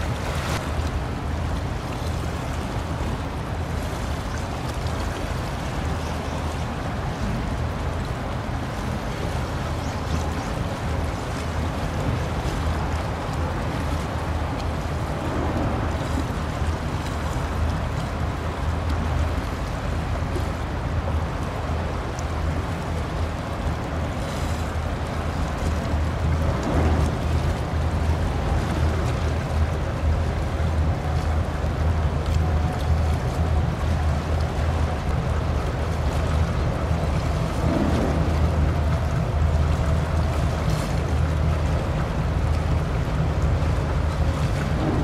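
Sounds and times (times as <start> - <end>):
rushing bow wave and wake: 0.0 - 45.0
ship engine low rumble: 0.0 - 45.0.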